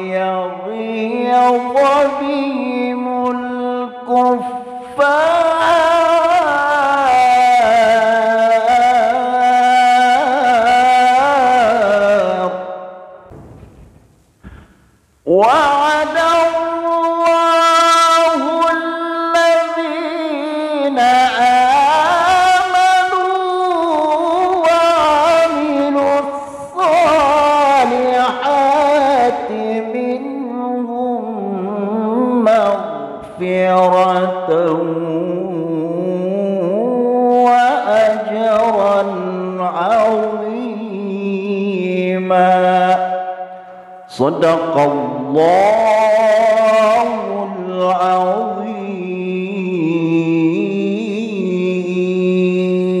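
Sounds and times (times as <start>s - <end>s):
man chanting: 0.0s - 13.2s, 15.2s - 53.0s
man reciting melodically: 0.0s - 13.2s, 15.2s - 53.0s.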